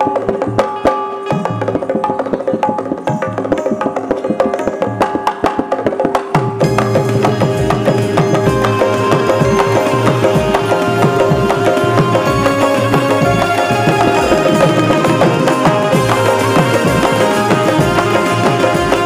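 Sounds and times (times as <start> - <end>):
held melody note: 0.0 - 19.0
quick percussion strokes: 0.0 - 19.0.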